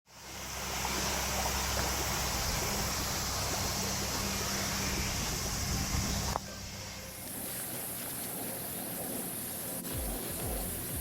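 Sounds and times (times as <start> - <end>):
low hum: 0.1 - 11.0
steady rushing noise: 0.1 - 11.0.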